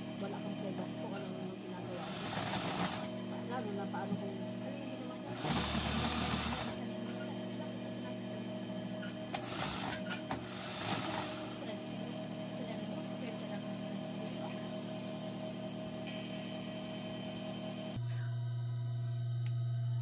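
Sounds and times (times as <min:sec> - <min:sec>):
overlock machine motor humming: 0:00.0 - 0:20.0.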